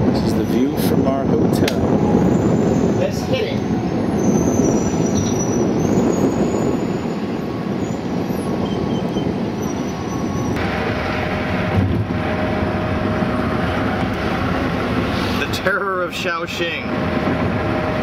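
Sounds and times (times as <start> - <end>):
car engine and road noise: 0.0 - 18.0
distant traffic noise: 0.0 - 18.0.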